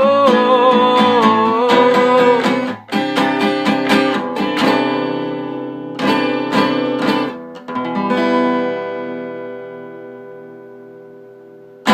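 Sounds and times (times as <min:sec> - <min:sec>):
acoustic guitar strumming: 0:00.0 - 0:11.9.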